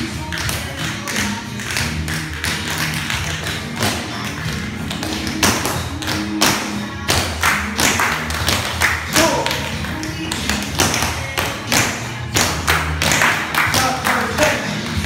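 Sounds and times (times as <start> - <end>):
recorded pop song: 0.0 - 15.0.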